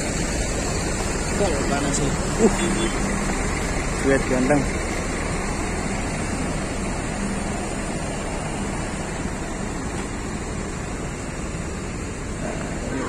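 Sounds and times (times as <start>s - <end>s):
bus engines idling: 0.0s - 13.0s.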